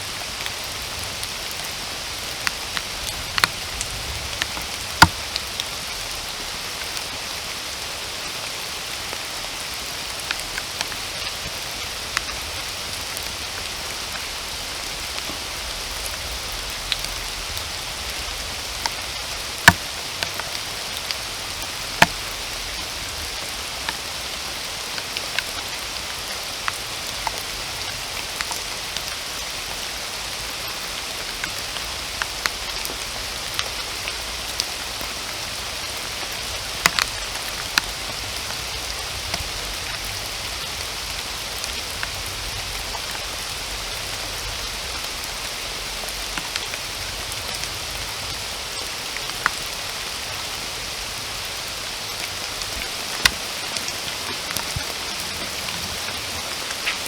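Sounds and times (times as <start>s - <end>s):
steady rain hissing: 0.0s - 57.0s
raindrops ticking: 0.1s - 57.0s.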